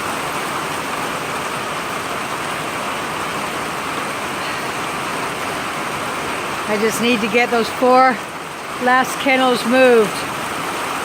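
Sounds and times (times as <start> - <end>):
heavy rain downpour: 0.0 - 11.0.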